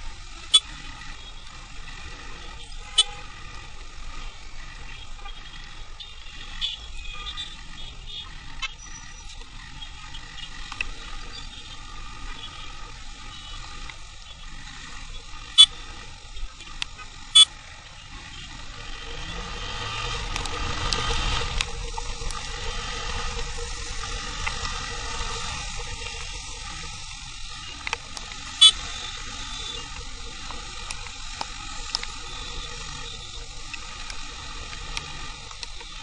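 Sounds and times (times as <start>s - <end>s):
motorcycle riding wind and engine noise: 0.0s - 36.0s.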